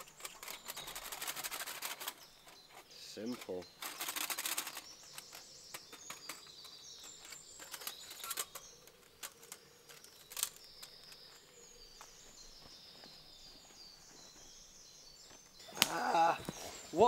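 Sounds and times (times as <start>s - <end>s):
camping gear clicks and knocks: 0.0s - 17.0s
faint songbird twittering: 0.0s - 17.0s.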